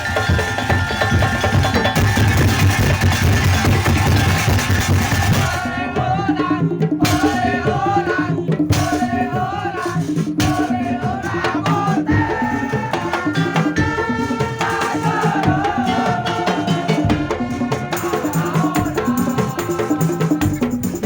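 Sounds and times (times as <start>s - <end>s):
drums and wooden percussion: 0.0s - 21.0s
pitched percussion notes: 0.0s - 21.0s.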